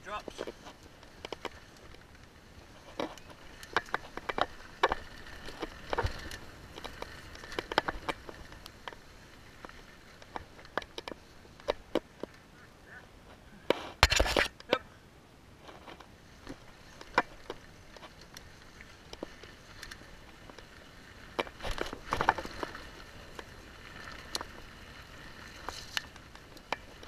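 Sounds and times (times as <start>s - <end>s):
bike knocks and rattles: 0.0s - 12.4s, 13.7s - 14.5s, 15.7s - 27.0s.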